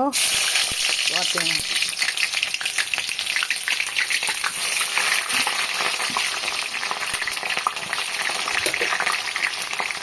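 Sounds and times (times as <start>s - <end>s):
food sizzling in hot oil: 0.1s - 10.0s.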